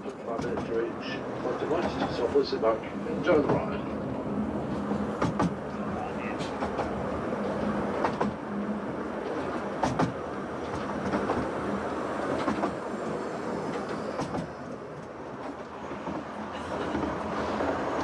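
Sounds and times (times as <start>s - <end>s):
rail joint clicks: 0.0s - 18.0s
train wheels on rails: 0.0s - 18.0s.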